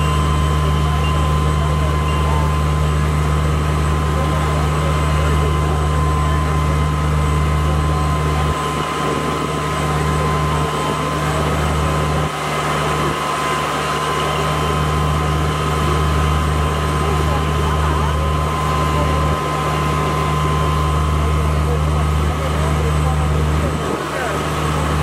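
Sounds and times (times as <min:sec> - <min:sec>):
fire engine motor drone: 0:00.0 - 0:25.0
pump whine: 0:00.0 - 0:25.0.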